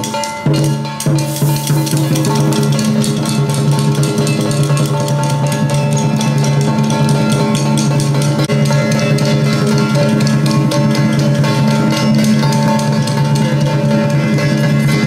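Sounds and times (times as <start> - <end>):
loud music with dense drumming: 0.0 - 15.0.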